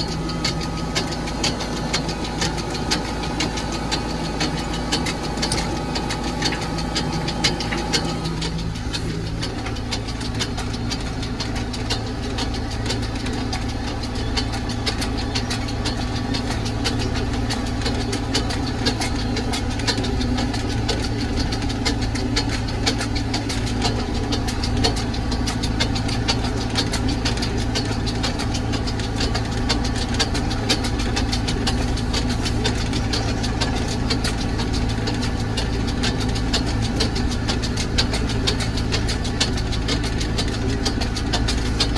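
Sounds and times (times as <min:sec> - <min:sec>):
fast rattling and clatter: 0:00.0 - 0:41.9
tractor diesel engine running: 0:00.0 - 0:41.9.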